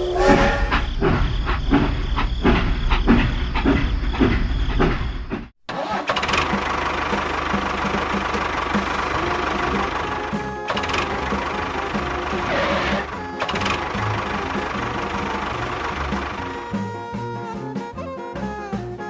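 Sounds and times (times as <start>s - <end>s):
engine running with rhythmic knocks: 0.8s - 5.5s, 6.1s - 19.0s.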